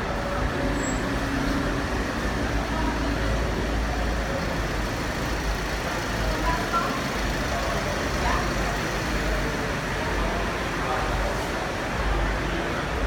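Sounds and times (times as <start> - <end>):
cars idling: 0.0 - 13.0.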